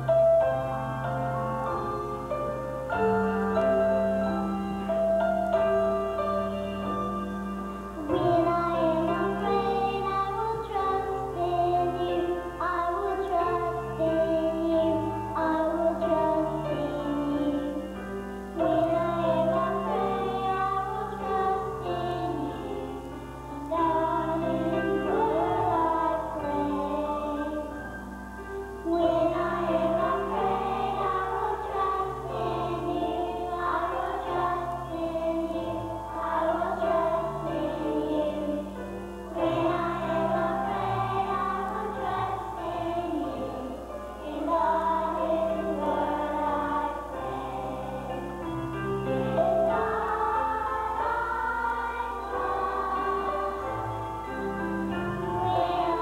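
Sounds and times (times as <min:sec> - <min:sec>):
children's choir singing: 0:00.0 - 0:56.0
musical accompaniment with bass: 0:00.0 - 0:56.0.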